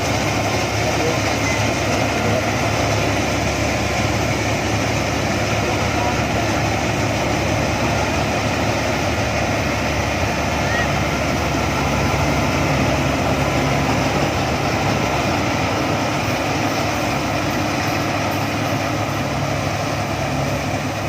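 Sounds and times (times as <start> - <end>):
combine harvester engine idling: 0.0 - 21.0.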